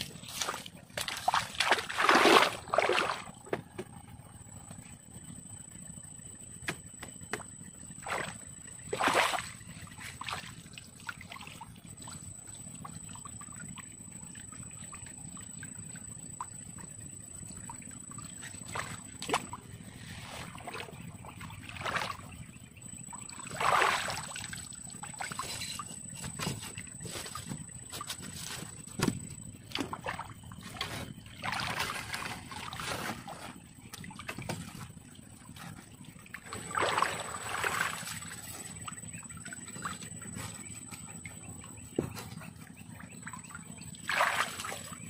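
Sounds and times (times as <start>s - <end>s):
water sloshing and splashing: 0.0s - 45.0s.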